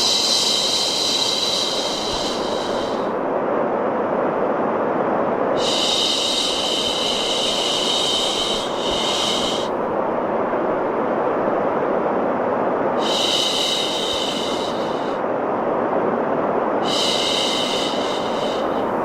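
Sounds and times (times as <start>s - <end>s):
steady white noise: 0.0s - 19.0s.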